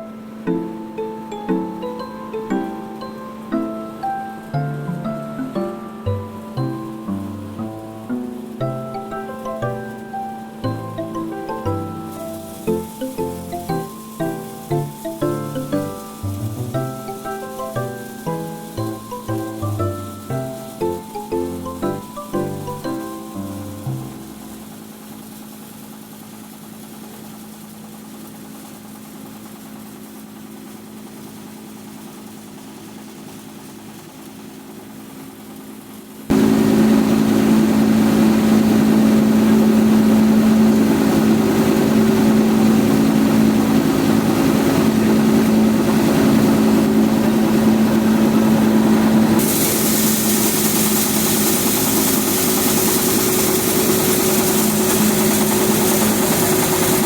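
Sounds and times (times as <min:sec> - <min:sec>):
mill machine humming: 0:00.0 - 0:25.5, 0:36.3 - 0:57.0.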